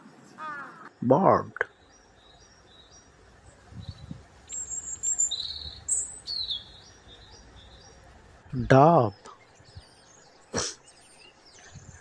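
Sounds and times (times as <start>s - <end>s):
robin singing: 0.4s - 12.0s.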